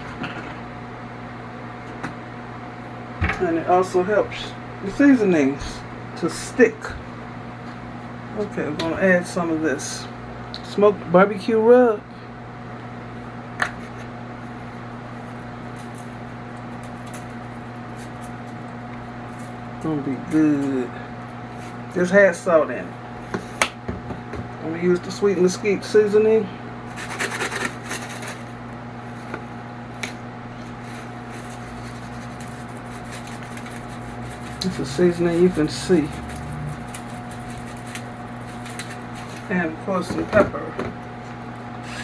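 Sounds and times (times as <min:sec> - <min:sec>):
mechanical hum: 0:00.0 - 0:42.0.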